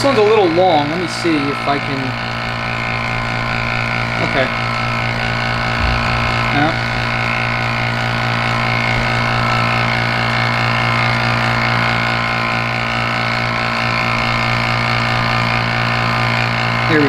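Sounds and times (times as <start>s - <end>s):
electric vacuum pump humming: 0.0s - 17.0s.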